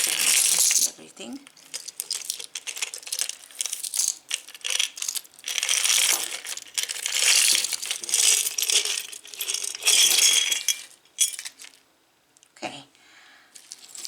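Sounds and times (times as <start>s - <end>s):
jewelry clattering and clinking: 0.0s - 11.8s, 13.6s - 14.0s.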